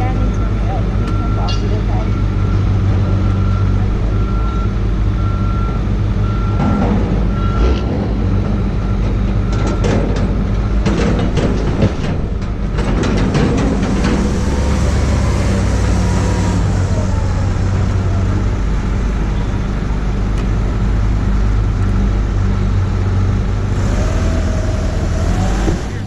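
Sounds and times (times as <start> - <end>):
road noise: 0.0 - 26.0
vehicle engine drone: 0.0 - 26.0.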